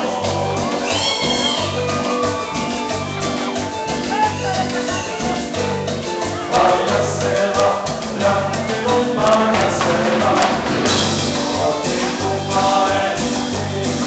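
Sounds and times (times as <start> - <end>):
live latin dance band: 0.0 - 14.0
percussion: 0.0 - 14.0
person singing: 0.0 - 14.0.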